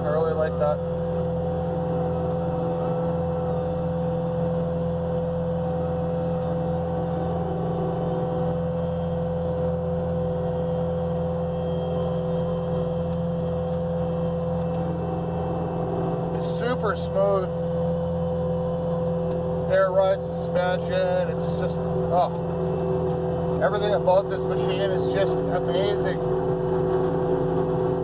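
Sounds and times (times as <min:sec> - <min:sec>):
diesel engine running: 0:00.0 - 0:28.0
high whine: 0:00.0 - 0:28.0.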